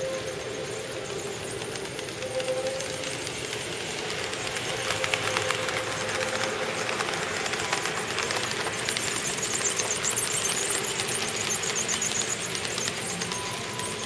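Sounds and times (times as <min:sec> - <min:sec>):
model train wheels rattling: 0:00.0 - 0:14.0.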